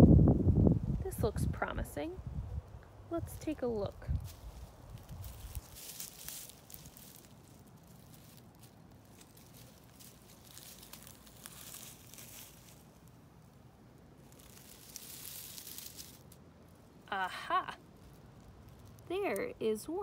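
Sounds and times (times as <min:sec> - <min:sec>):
dry pine straw rustling: 0:02.2 - 0:20.0.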